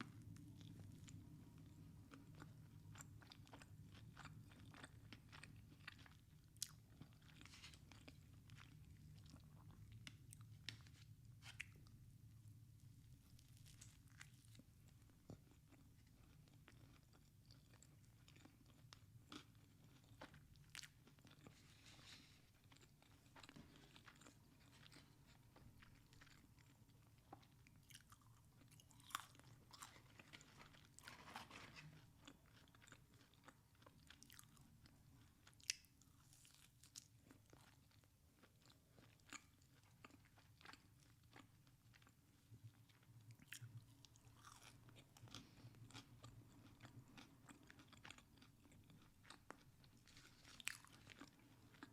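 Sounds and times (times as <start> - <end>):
person chewing food: 0.0 - 12.0, 13.2 - 51.9.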